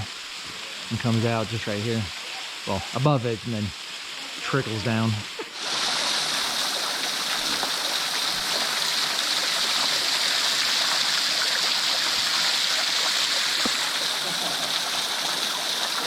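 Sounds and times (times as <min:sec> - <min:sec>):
small waterfall splashing: 0:00.0 - 0:16.0.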